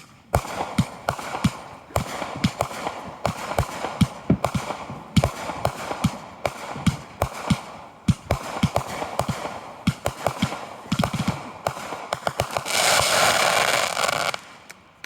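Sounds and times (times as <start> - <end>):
crackle of small firework bursts: 0.0 - 15.0
fireworks bangs: 0.0 - 15.0.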